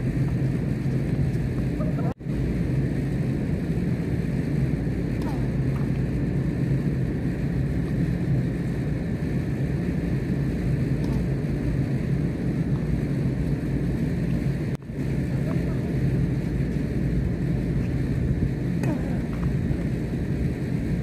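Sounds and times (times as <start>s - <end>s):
steady low rumbling: 0.0s - 21.0s.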